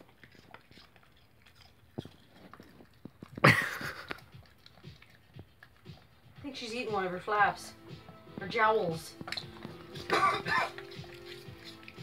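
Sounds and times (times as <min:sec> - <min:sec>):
dog chewing crunchy food: 0:00.0 - 0:12.0.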